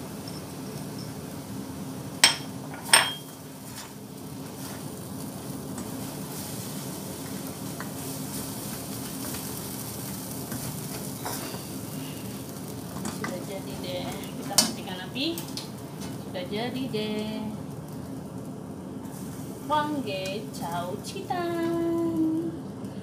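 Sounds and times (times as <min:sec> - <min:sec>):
stir-fry sizzling in a wok: 0:00.0 - 0:22.6.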